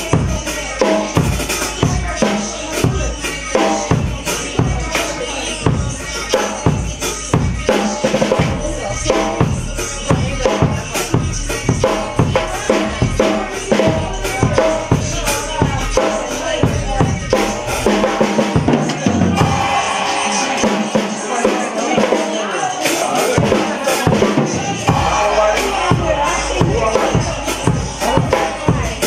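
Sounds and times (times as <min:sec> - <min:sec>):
background music: 0:00.0 - 0:29.0
drum kit steady beat: 0:00.0 - 0:29.0.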